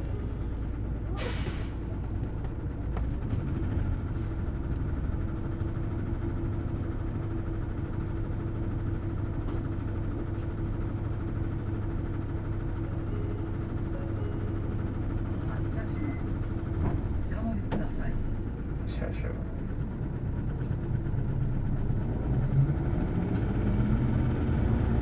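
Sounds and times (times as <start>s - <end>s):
bus diesel engine idling: 0.0s - 25.0s.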